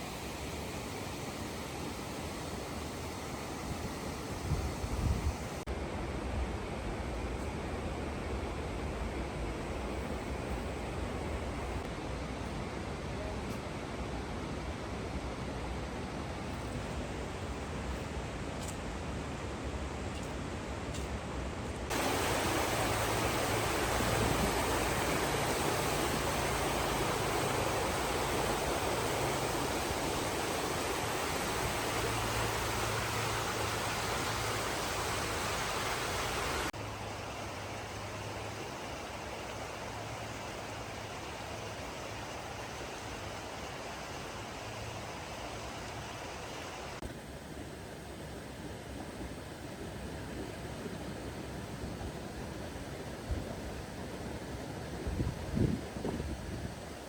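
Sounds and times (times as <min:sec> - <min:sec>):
rushing outdoor ambience: 0:00.0 - 0:52.9.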